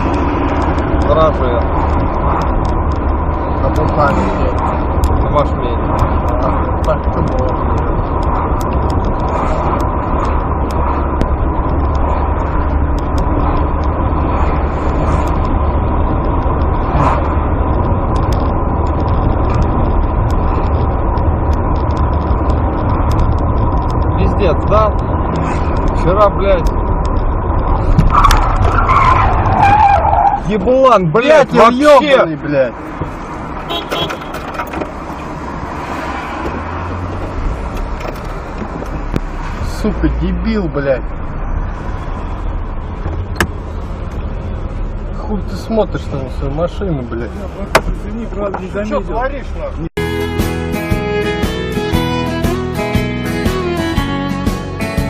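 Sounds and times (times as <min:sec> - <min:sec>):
vehicle engine low rumble: 0:00.0 - 0:55.0.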